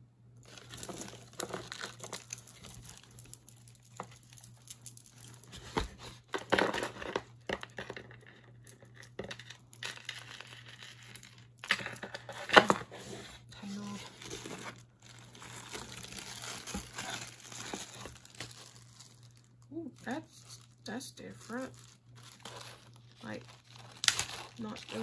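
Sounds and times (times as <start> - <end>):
wrapping crinkling and rustling: 0.4 - 25.0.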